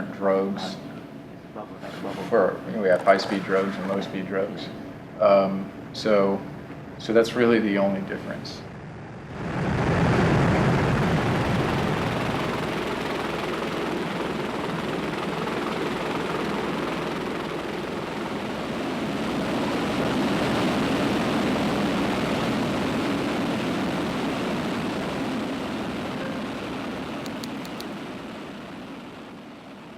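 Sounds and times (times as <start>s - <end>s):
aircraft in flight: 5.8s - 29.9s.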